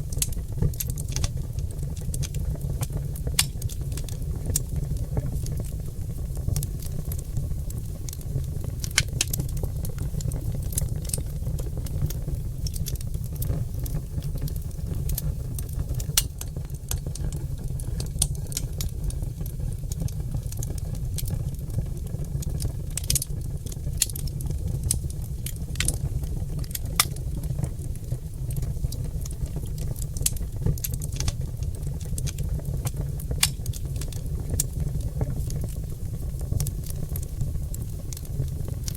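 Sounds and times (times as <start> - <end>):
logs crackling and popping: 0.0 - 38.9
low rumble of fire: 0.0 - 38.9.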